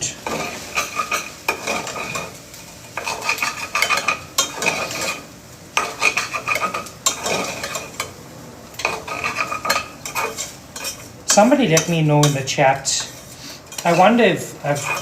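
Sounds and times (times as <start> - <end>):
utensil stirring and scraping stew: 0.1 - 15.0.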